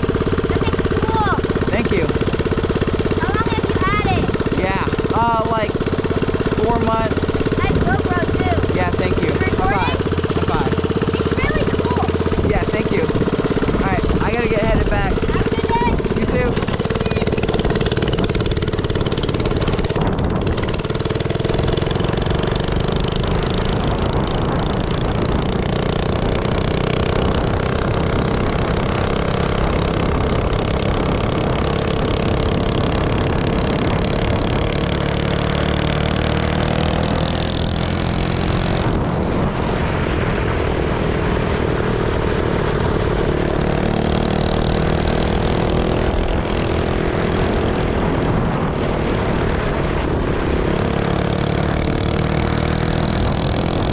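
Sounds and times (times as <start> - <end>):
small engine revving: 0.0 - 53.9.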